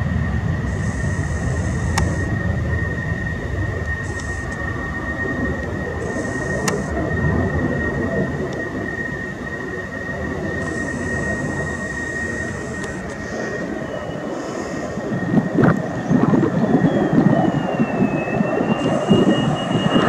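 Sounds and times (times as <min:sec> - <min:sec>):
jet engine rumble and whine: 0:00.0 - 0:20.0.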